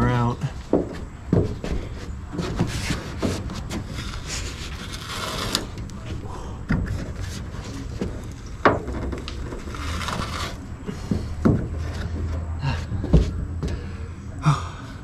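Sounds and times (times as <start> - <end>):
trim scraping and creaking: 0.0 - 14.0.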